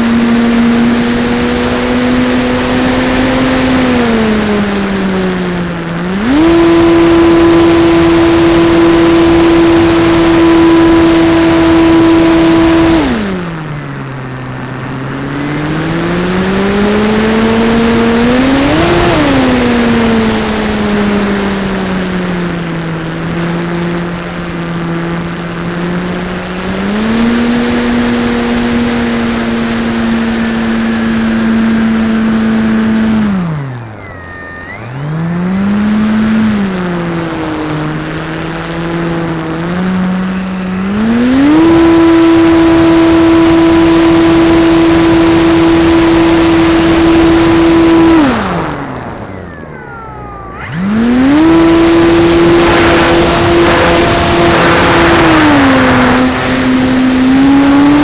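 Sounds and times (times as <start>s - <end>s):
model airplane motor drone: 0.0s - 58.0s.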